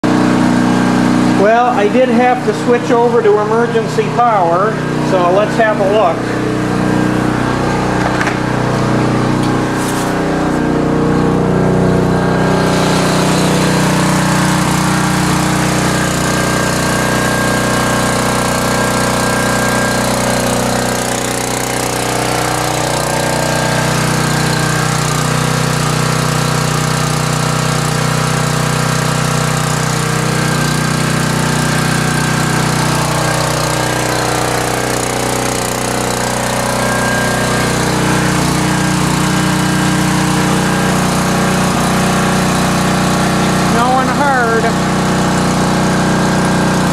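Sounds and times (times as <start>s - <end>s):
generator engine running: 0.0s - 46.9s.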